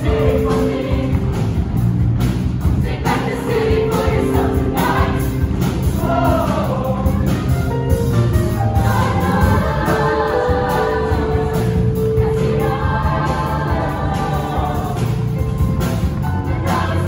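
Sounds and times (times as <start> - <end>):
choir singing: 0.0 - 1.8, 2.6 - 7.6, 8.7 - 17.0
instrumental accompaniment: 0.0 - 17.0.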